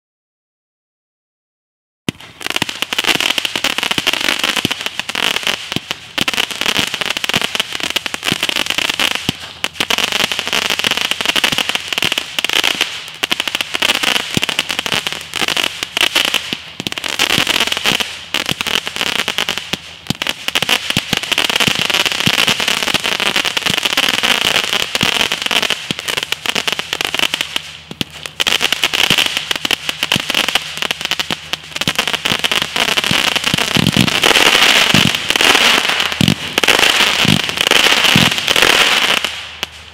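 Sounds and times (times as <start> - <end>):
firework cake shots crackling: 2.1 - 39.9
high firework whistling: 2.1 - 39.9.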